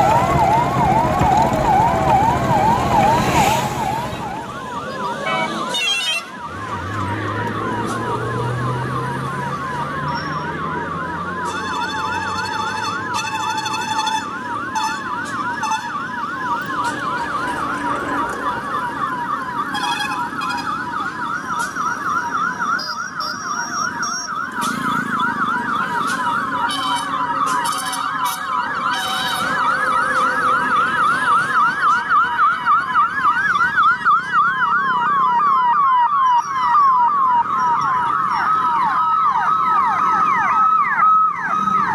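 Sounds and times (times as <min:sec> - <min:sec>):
police sirens yelping: 0:00.0 - 0:41.9
vehicle engines: 0:00.0 - 0:41.9.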